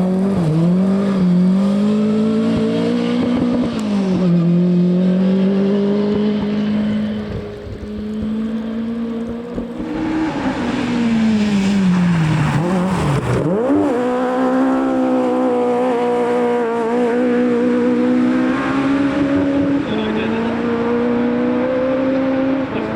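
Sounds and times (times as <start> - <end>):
rally car engine revving: 0.0 - 22.9.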